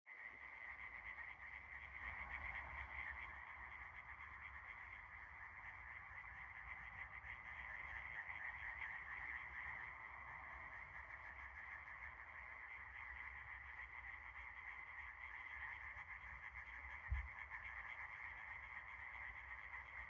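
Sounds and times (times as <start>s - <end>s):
frogs croaking: 0.1s - 20.0s.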